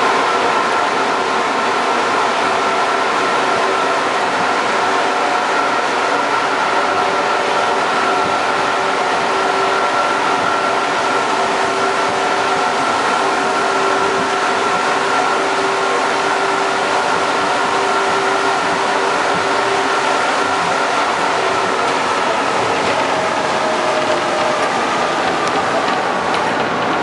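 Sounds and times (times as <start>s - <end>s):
steady whining tones: 0.0s - 27.0s
train running: 0.0s - 27.0s.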